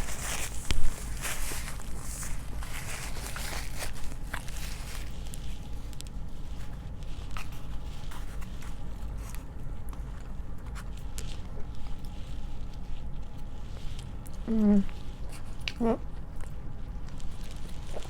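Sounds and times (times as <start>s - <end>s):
crackly crunching: 0.0s - 18.0s
person chewing food: 0.0s - 18.0s.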